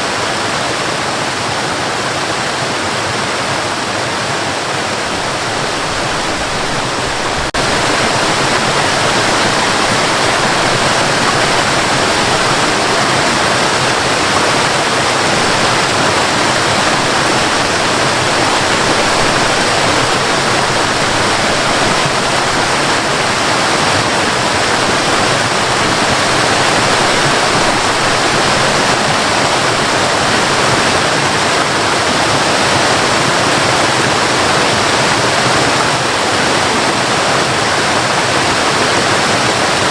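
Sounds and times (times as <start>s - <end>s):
cascading water rushing: 0.0s - 39.9s.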